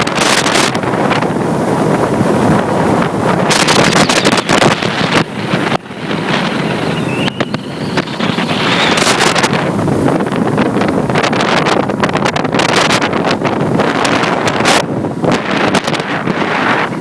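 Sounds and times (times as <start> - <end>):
outboard motor: 0.0 - 17.0
rushing water: 0.0 - 17.0
wind buffeting microphone: 0.0 - 17.0.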